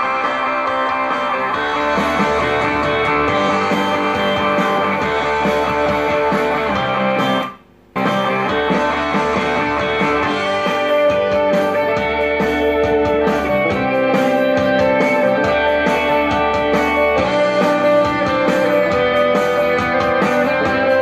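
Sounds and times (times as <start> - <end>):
guitar-led music on stereo: 0.0 - 21.0.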